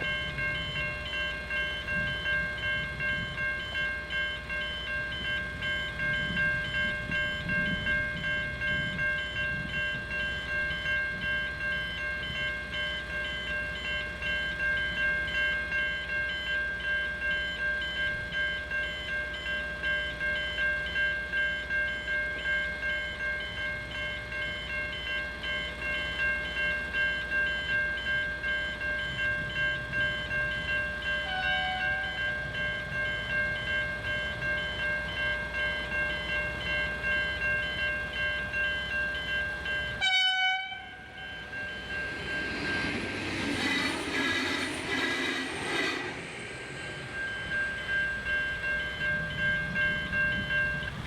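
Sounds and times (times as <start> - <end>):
level crossing bells ringing: 0.0 - 43.4, 46.2 - 51.0.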